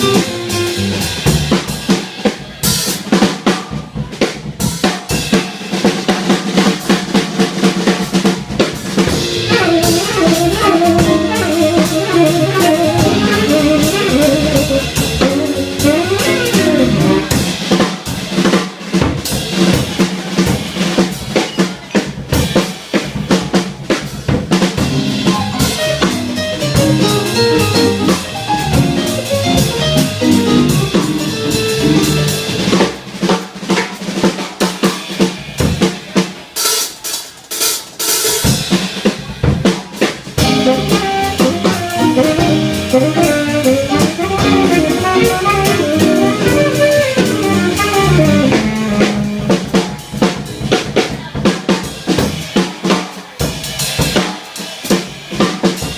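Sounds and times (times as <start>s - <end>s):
bass: 0.0s - 34.4s, 38.4s - 52.6s
piano: 0.0s - 36.2s, 38.4s - 51.0s
drum kit playing: 0.0s - 55.9s.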